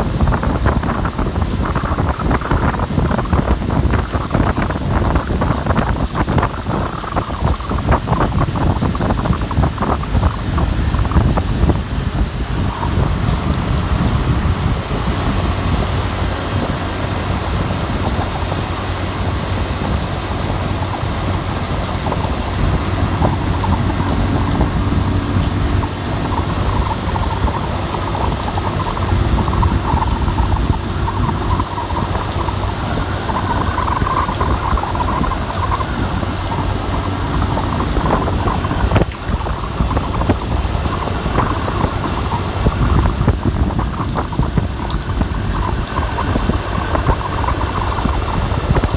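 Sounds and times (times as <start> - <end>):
wind and rain rushing: 0.0 - 48.9
wind buffeting microphone: 0.0 - 48.9.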